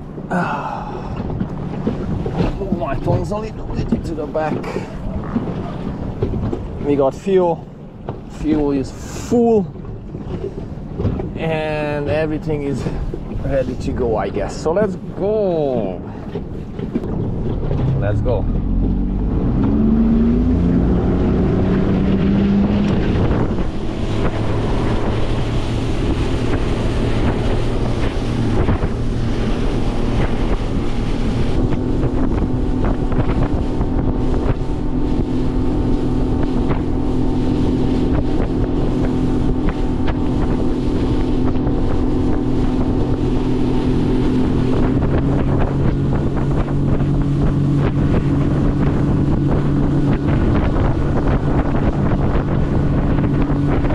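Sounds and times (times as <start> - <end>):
boat engine running: 0.0 - 53.9
water rushing along hull: 0.0 - 53.9
wind buffeting microphone: 0.0 - 53.9.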